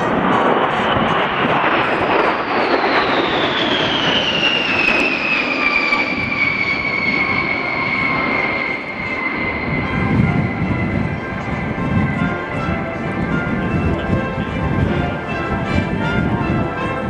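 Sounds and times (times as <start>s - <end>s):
jet engines roaring on flypast: 0.0s - 17.0s.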